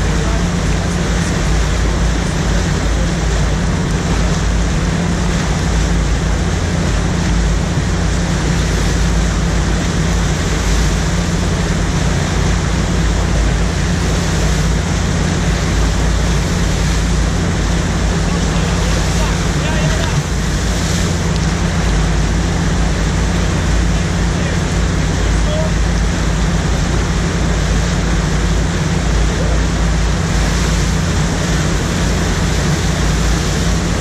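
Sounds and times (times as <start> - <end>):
steady low hum: 0.0 - 34.0
water rushing and churning: 0.0 - 34.0.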